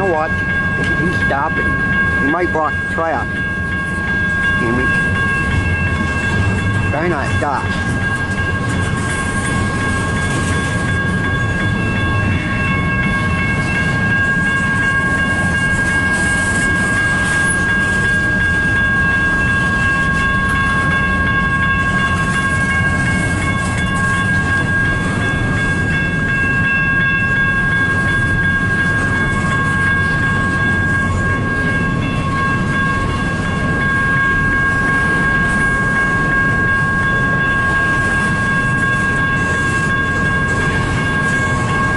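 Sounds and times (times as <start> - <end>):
freight train rumbling: 0.0 - 41.9.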